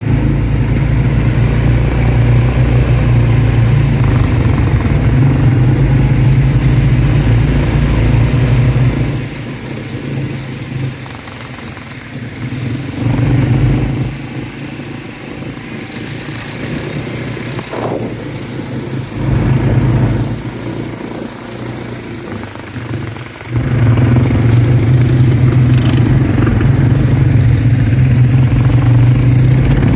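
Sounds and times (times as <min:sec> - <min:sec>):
atv engine running: 0:00.0 - 0:29.9.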